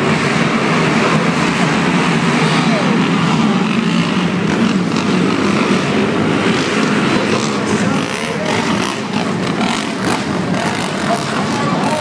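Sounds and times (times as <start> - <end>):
crowd chatter: 0.0 - 12.0
quad engines revving: 0.0 - 12.0.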